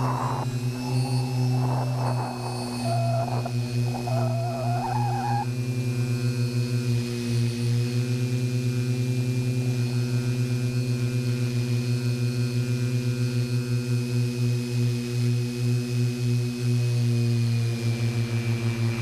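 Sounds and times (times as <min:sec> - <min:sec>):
quadcopter motors humming: 0:00.0 - 0:19.0.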